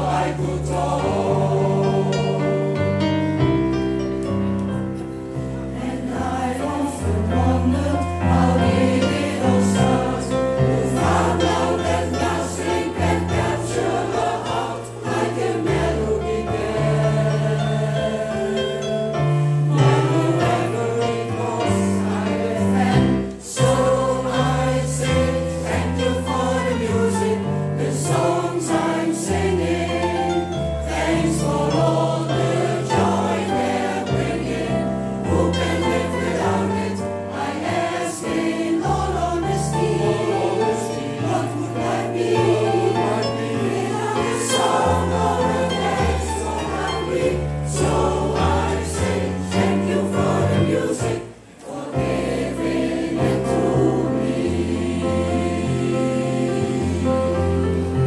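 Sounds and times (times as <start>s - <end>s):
mixed choir singing: 0.0s - 4.4s, 5.0s - 58.0s.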